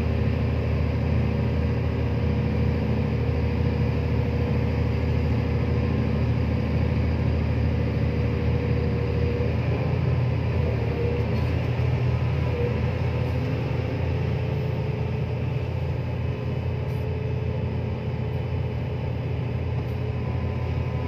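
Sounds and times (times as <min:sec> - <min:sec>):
heavy engines rumbling: 0:00.0 - 0:21.0.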